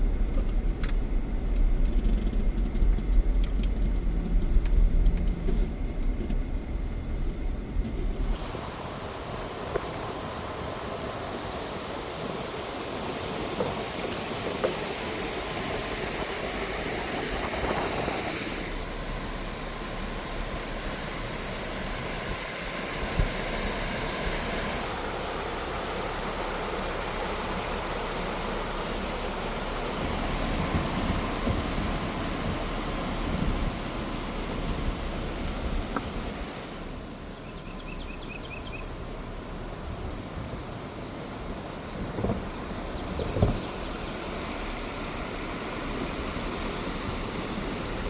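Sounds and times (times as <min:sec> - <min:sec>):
car road and wind noise: 0:00.0 - 0:48.0.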